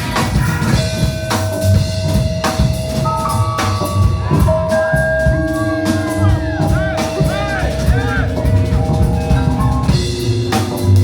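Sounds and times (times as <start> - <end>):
drum kit beat: 0.0 - 11.0
rock band playing live: 0.0 - 11.0.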